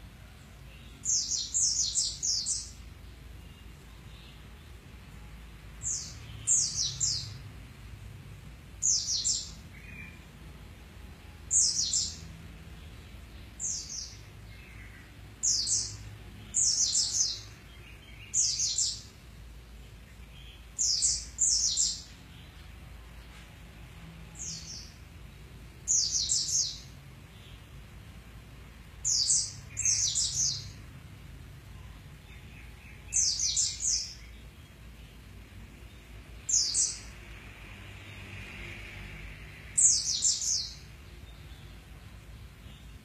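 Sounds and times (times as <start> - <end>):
bird chirping: 0.4 - 7.6, 8.8 - 10.4, 11.3 - 23.4, 24.2 - 27.9, 28.9 - 37.3, 39.4 - 43.0.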